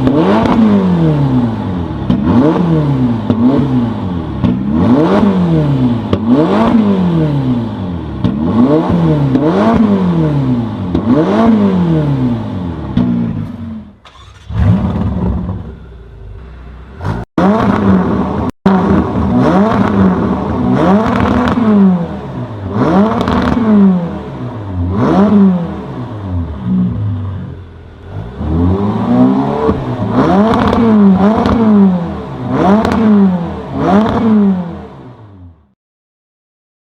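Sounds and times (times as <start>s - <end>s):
car engine revving: 0.0s - 35.6s.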